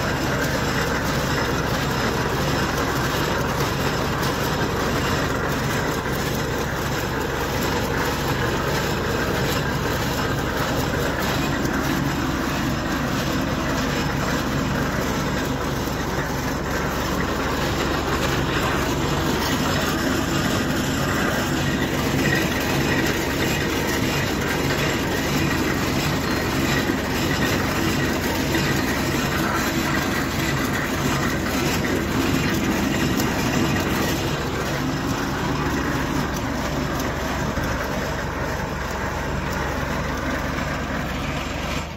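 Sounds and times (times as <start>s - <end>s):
tractor engine under load: 0.0s - 41.9s.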